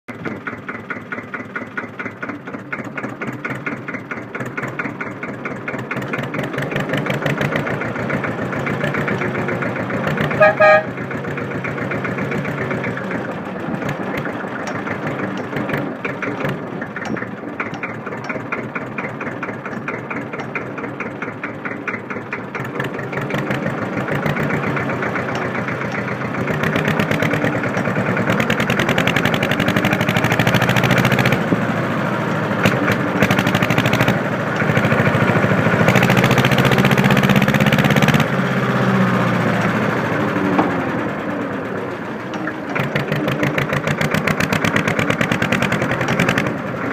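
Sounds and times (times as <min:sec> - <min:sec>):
diesel engine idling and revving: 0:00.0 - 0:46.9.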